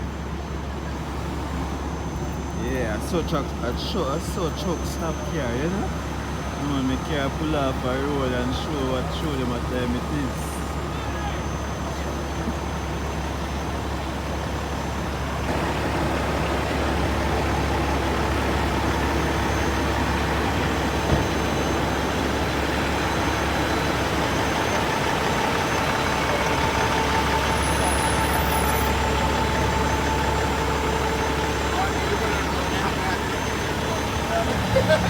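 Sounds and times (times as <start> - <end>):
road noise: 0.0 - 35.0
truck engine running: 0.0 - 35.0.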